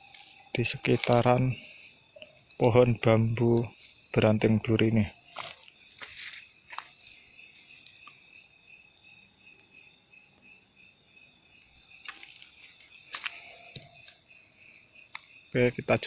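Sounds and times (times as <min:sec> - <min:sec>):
crickets and insects trilling: 0:00.0 - 0:16.0.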